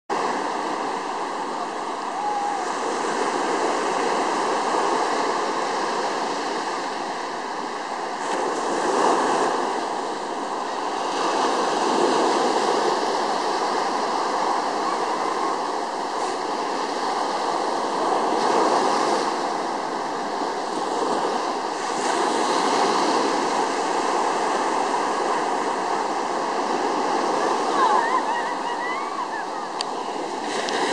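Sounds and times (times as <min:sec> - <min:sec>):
waves breaking on a beach: 0:00.1 - 0:30.9.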